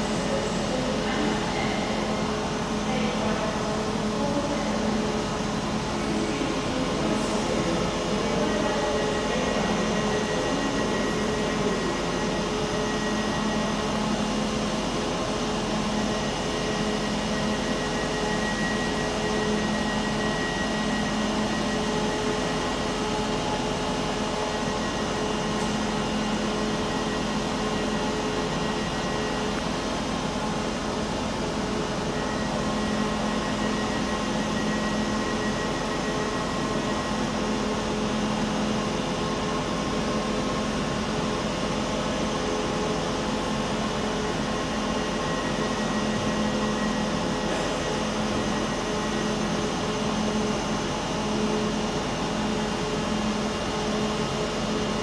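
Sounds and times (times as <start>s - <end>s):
train machinery humming: 0.0s - 55.0s.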